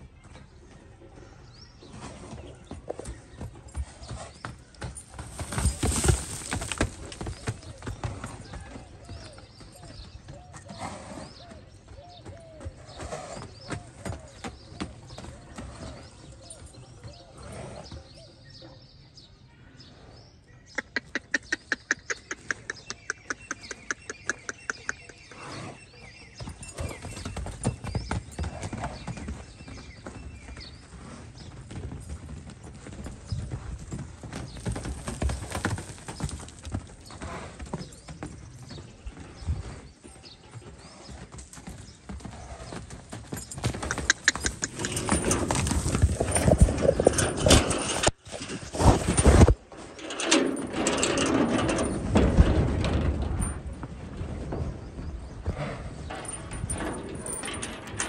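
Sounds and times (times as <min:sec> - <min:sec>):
horse galloping on dirt: 0:00.0 - 0:18.6, 0:20.8 - 0:58.0.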